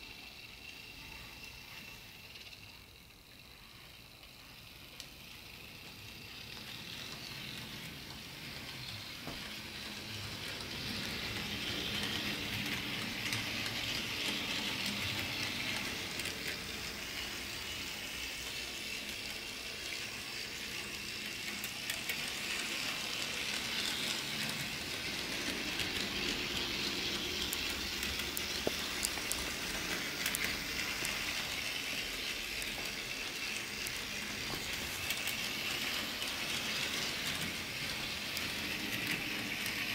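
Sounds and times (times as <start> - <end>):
model train motor whirring: 0.0 - 39.9.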